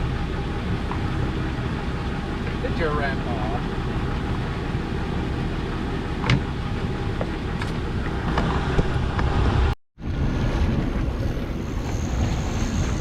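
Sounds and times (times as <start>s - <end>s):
boat engine rumble: 0.0s - 13.0s
wind on water: 0.0s - 13.0s.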